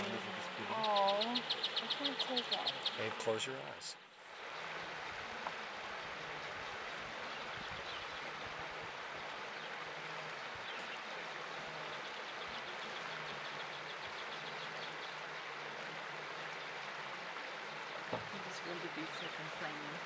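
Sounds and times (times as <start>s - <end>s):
river water rushing: 0.0s - 3.4s, 4.1s - 20.0s.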